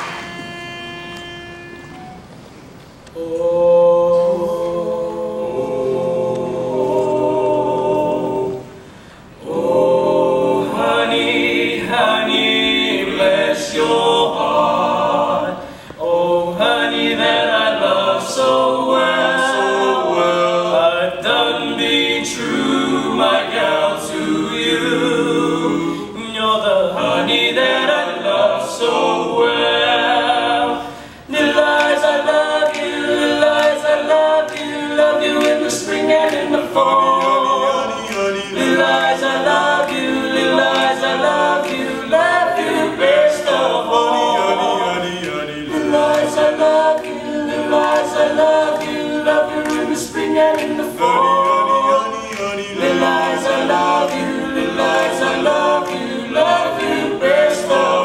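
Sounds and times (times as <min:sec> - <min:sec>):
boys singing in harmony: 0:03.1 - 0:58.0.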